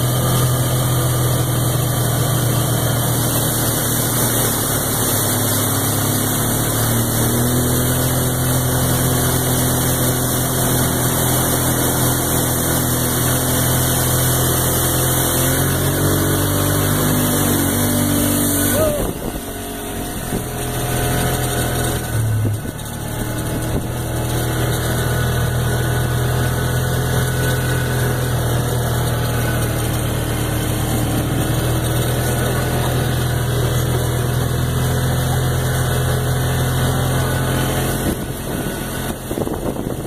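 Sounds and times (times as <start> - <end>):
off-road vehicle engine running: 0.0 - 40.0.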